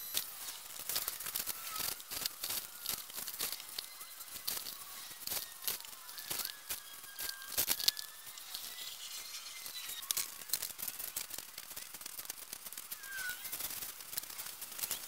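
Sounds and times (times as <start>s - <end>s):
gritty mix crunching and scraping: 0.0s - 15.0s.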